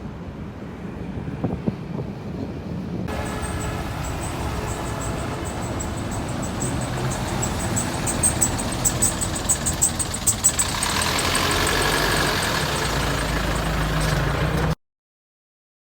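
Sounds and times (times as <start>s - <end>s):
traffic noise: 0.0s - 14.8s
vehicle engines running: 0.9s - 14.8s.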